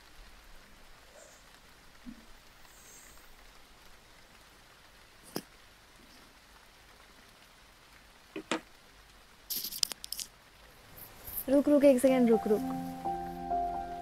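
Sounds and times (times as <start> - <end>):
rustle: 0.0 - 13.5
faint steady hiss: 0.0 - 14.0.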